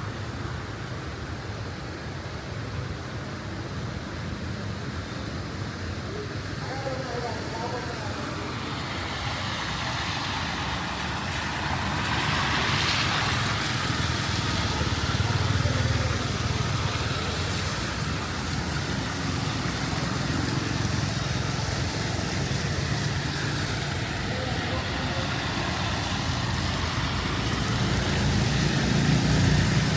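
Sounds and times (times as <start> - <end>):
steady hiss and engine rumble: 0.0 - 29.9
vehicles passing: 0.0 - 29.9.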